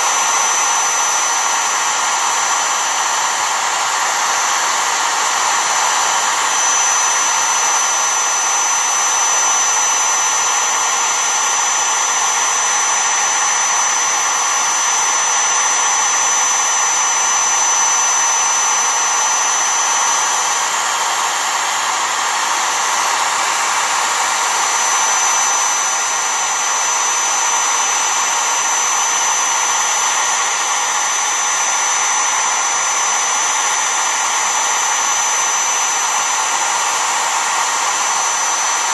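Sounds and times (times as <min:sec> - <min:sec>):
router motor whine: 0:00.0 - 0:38.9.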